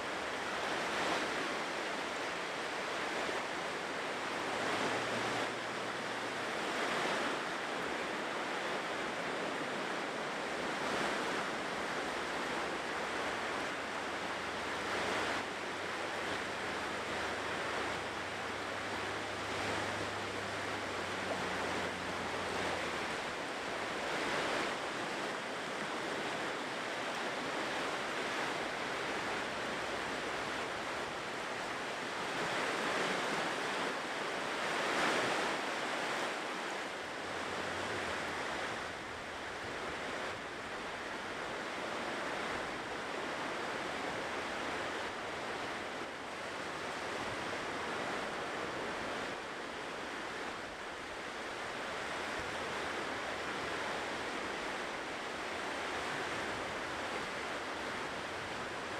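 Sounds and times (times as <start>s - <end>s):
ocean surf washing ashore: 0.0s - 58.9s.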